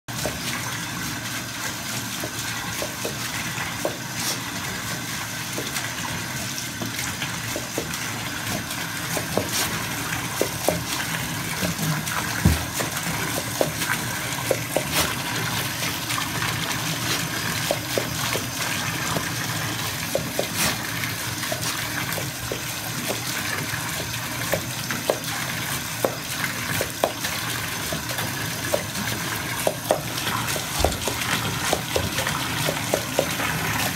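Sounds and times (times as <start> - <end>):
tap running into tub: 0.1 - 33.9.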